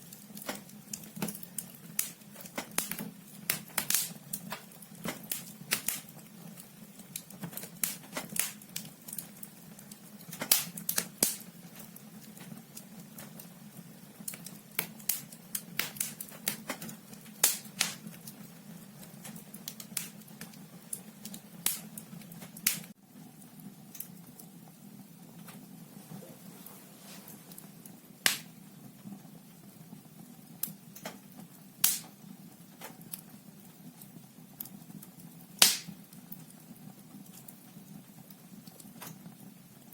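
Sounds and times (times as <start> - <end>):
wood logs crackling and popping: 0.0 - 25.8, 27.3 - 39.9.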